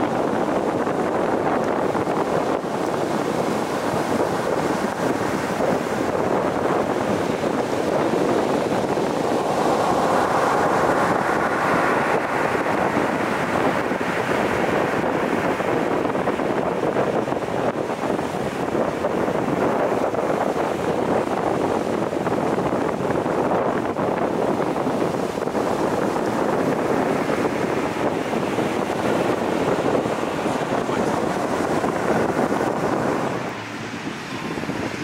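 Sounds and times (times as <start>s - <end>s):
surf on pebble beach: 0.0s - 35.0s
wave crashing: 0.0s - 35.0s.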